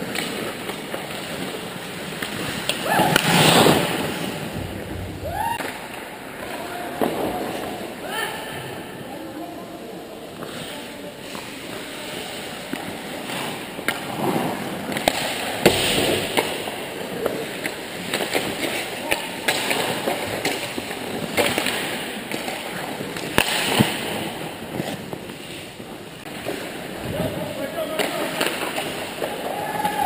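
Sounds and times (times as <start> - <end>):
hockey sticks and puck clacking: 0.0 - 4.7, 5.4 - 8.0, 10.3 - 30.0
skate blades scraping ice: 0.0 - 4.8, 10.3 - 30.0.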